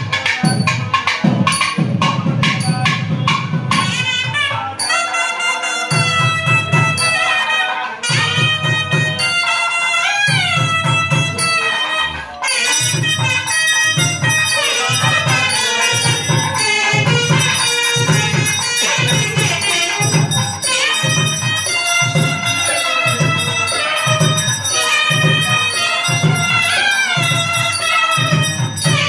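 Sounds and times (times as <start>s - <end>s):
reed instrument melody: 3.7s - 29.0s.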